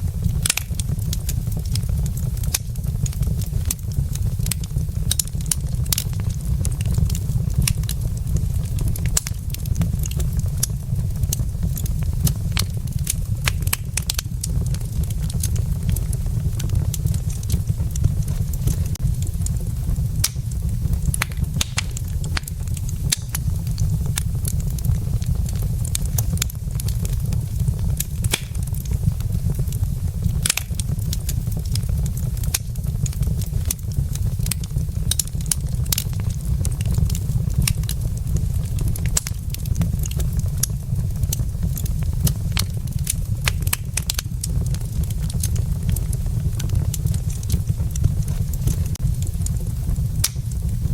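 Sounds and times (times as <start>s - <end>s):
steady low fire rumble: 0.0s - 50.9s
wood fire crackling and popping: 0.0s - 50.9s.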